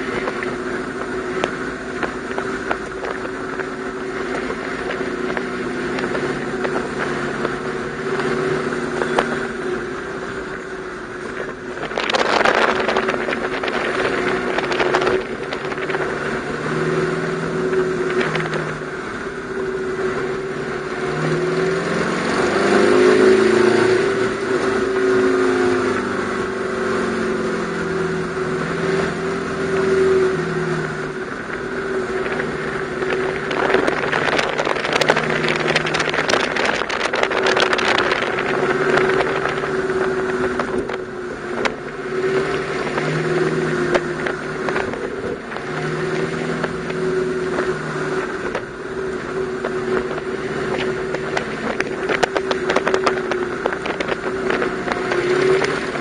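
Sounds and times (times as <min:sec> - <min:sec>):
car engine revving: 0:00.0 - 0:56.0
rush of noise: 0:00.0 - 0:56.0.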